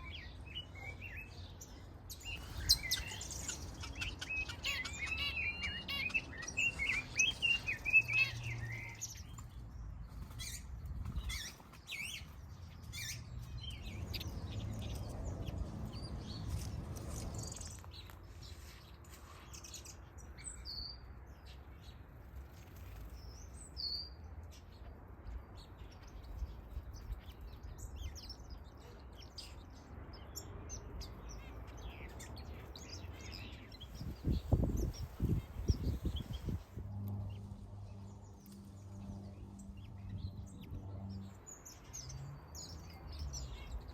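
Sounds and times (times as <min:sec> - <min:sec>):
birds warbling song: 0:00.0 - 0:43.9
small birds chirping and calling: 0:00.0 - 0:43.9.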